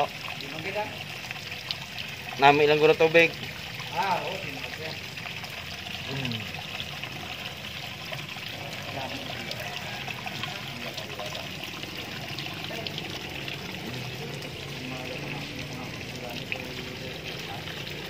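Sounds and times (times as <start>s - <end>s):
water pouring into pond: 0.0s - 18.0s.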